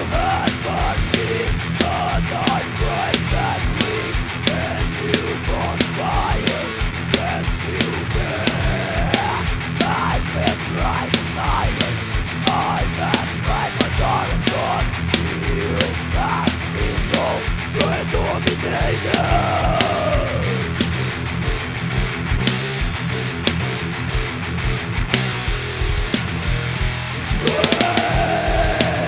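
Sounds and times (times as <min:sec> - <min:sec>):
bass guitar: 0:00.0 - 0:29.0
distorted electric guitars: 0:00.0 - 0:29.0
fast drum beat: 0:00.0 - 0:29.0.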